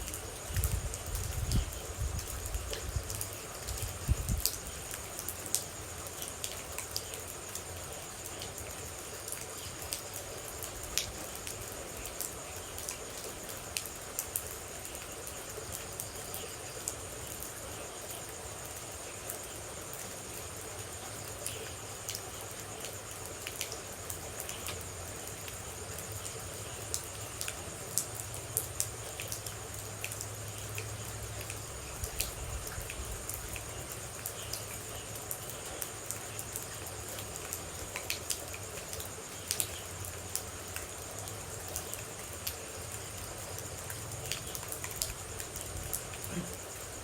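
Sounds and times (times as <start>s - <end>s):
insects chirring: 0.0s - 47.0s
steady rain: 0.0s - 47.0s.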